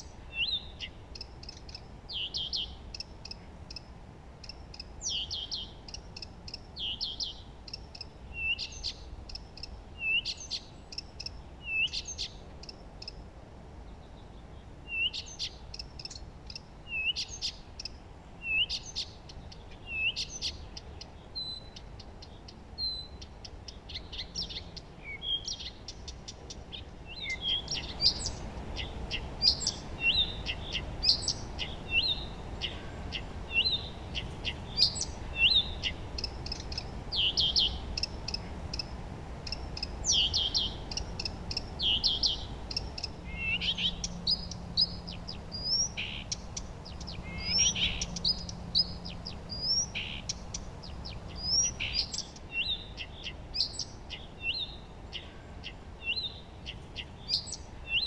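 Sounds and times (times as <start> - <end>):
faint steady hiss: 0.0 - 58.0
songbirds chirping and singing: 0.0 - 58.0.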